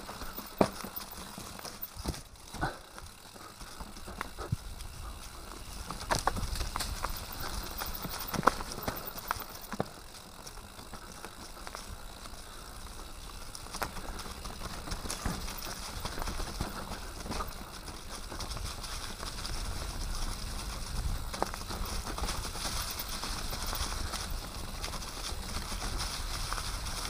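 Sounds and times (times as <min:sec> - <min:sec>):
bike rattling over bumps: 0:00.0 - 0:27.0
mountain bike tyre noise: 0:00.0 - 0:27.0.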